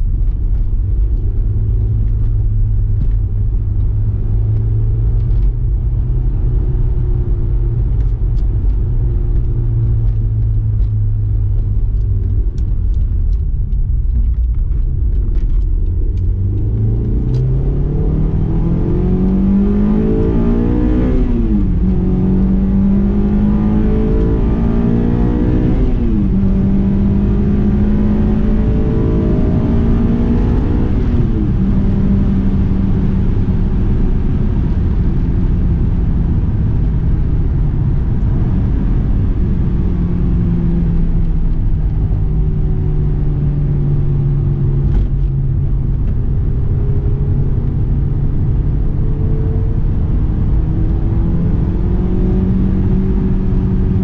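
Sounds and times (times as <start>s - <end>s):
car engine accelerating hard: 0.0s - 54.0s
road rumble: 0.0s - 54.0s.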